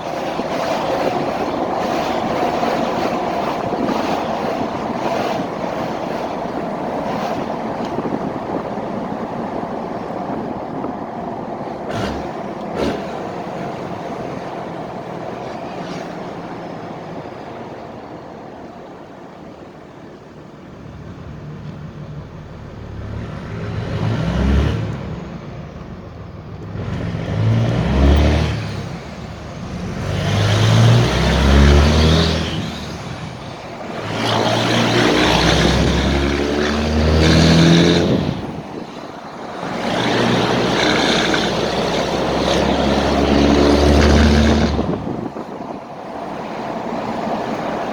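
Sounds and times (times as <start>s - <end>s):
diesel engine revving: 0.0s - 18.3s, 20.6s - 47.9s.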